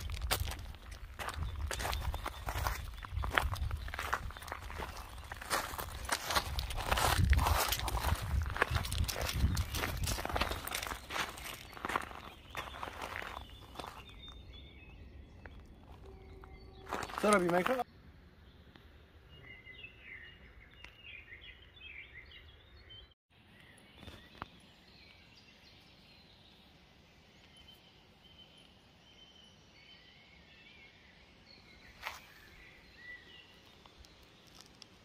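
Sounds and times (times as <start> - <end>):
faint birds chirping: 0.0 - 35.0
outdoor background noise: 0.0 - 35.0.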